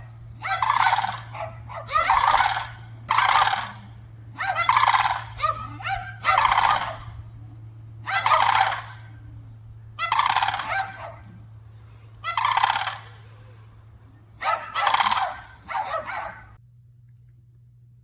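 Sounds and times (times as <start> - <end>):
fowl harsh rattling calls: 0.0 - 7.4, 8.0 - 16.6.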